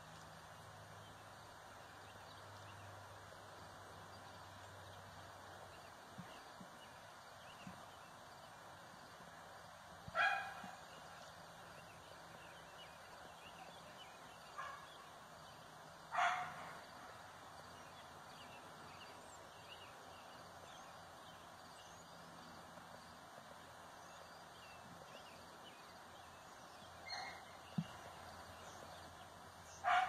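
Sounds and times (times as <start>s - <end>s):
low outdoor background: 0.0s - 30.0s.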